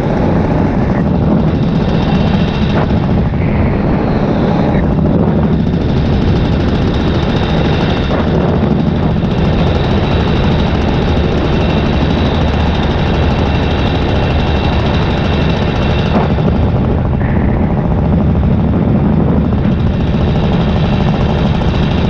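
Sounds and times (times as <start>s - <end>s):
paramotor engine drone: 0.0s - 22.0s.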